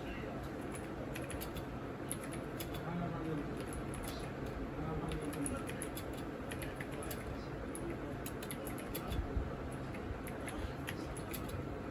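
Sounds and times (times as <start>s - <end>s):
mechanical keyboard typing: 0.6s - 11.6s.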